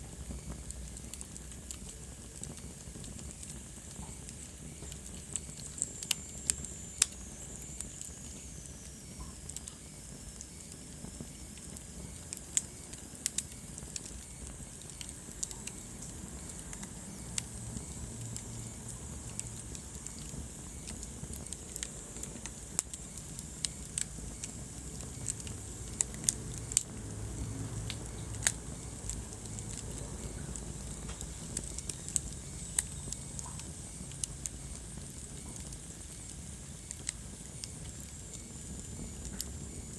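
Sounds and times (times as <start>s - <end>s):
low rumble of flames: 0.0s - 39.9s
wood fire crackles and pops: 0.0s - 39.9s.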